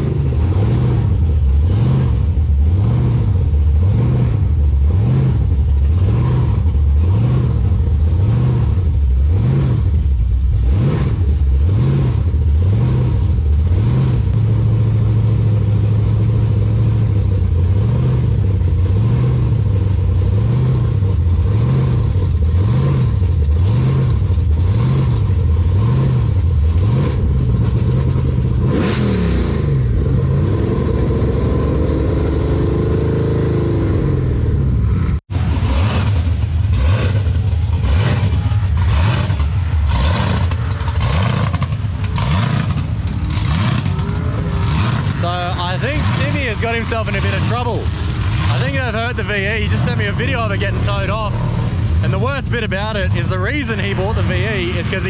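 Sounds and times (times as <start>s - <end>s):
car engine revving hard: 0.0s - 55.0s.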